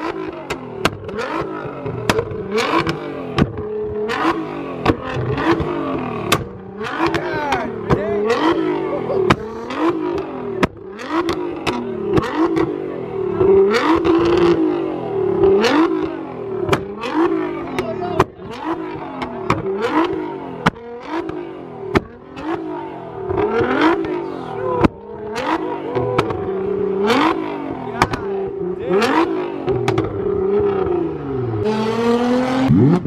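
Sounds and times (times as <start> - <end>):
exhaust pops and bangs: 0.0 - 8.6, 9.2 - 14.7, 15.4 - 24.1, 24.8 - 31.0
car engine revving: 0.0 - 33.0.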